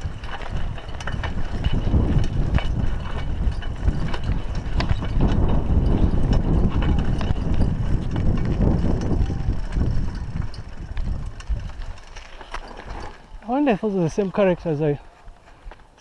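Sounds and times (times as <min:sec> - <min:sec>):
bike frame and chain rattling: 0:00.0 - 0:16.0
tyres crunching on gravel: 0:00.0 - 0:16.0.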